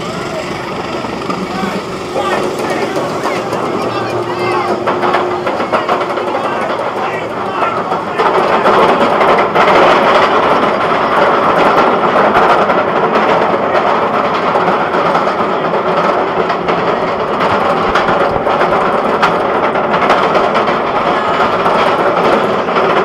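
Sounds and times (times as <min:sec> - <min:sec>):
roller coaster rumbling on steel track: 0:00.0 - 0:23.0.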